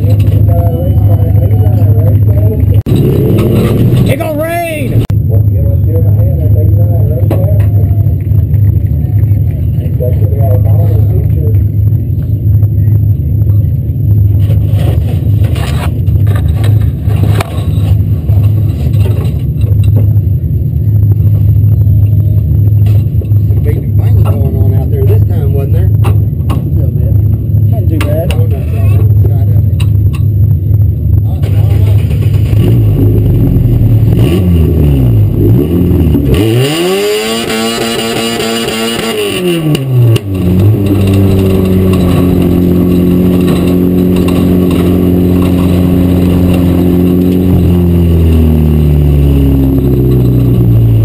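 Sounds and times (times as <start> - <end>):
race car engine rumble: 0.0 - 51.0.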